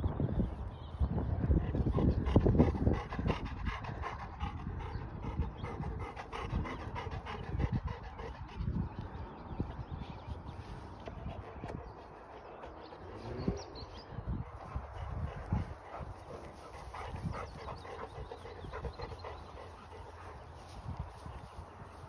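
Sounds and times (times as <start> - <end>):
dog panting: 1.6 - 10.3, 10.9 - 22.0.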